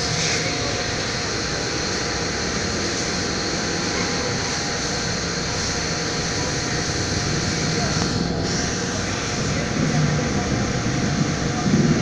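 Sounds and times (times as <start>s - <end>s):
pressure washer motor hum: 0.0s - 12.0s
water jet hissing: 0.0s - 12.0s.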